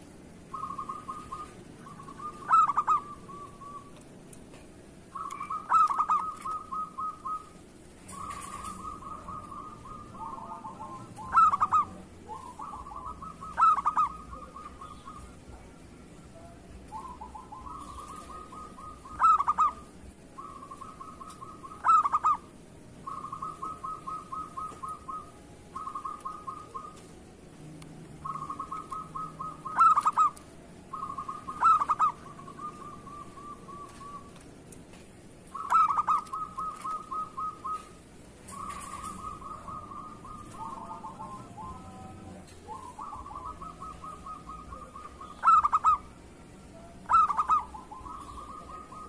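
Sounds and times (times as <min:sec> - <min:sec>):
dove cooing: 0:00.0 - 0:04.0, 0:05.1 - 0:34.4, 0:35.5 - 0:49.0.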